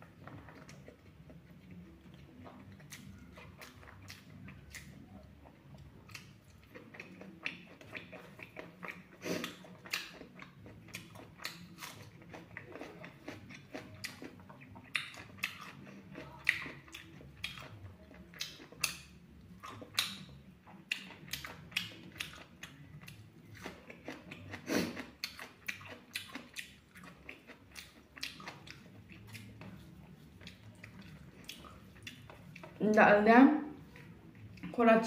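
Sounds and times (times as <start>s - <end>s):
chewing and crunching food: 0.0s - 33.0s, 33.7s - 34.8s.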